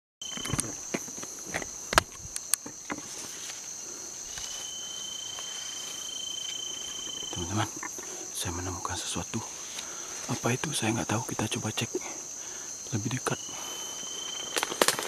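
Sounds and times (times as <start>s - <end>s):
insects trilling: 0.2s - 15.0s
lower steady insect tone: 0.2s - 15.0s.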